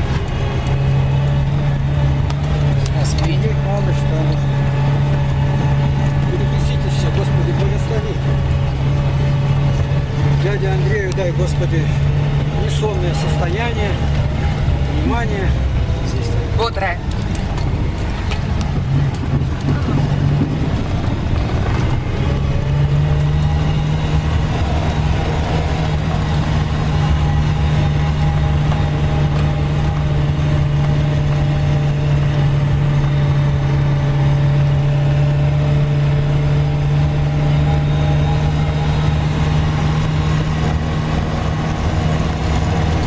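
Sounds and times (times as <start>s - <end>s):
car engine drone: 0.0s - 43.0s
tyre and road noise: 0.0s - 43.0s.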